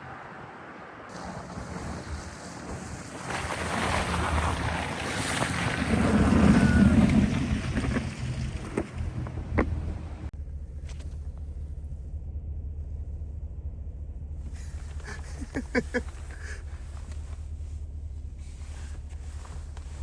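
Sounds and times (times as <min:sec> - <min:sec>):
vehicle engine low rumble: 0:00.1 - 0:20.0.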